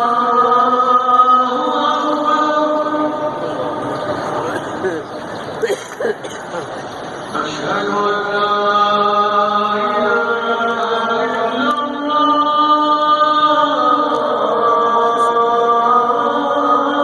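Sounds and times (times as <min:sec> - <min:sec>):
call to prayer over loudspeakers: 0:00.0 - 0:17.0.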